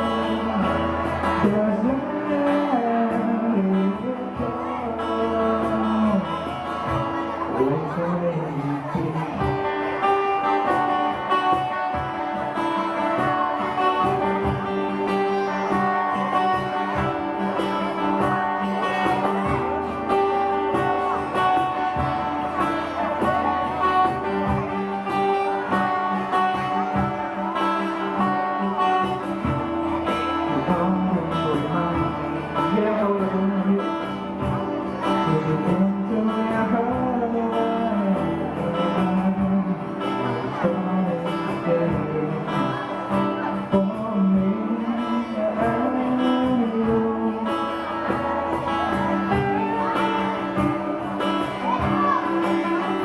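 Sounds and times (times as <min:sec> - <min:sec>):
guitar line with bending pitch: 0:00.0 - 0:53.0
live band playing: 0:00.0 - 0:53.0.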